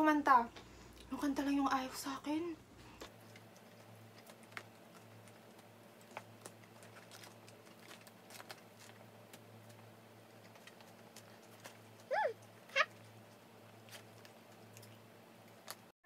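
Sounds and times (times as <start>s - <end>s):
low steady hum: 0.0s - 15.9s
clicks and crackles of food eaten: 2.8s - 15.9s.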